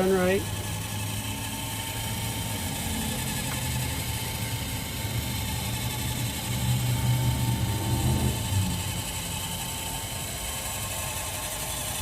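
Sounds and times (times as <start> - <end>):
spotlight motor whirring: 0.0 - 12.0.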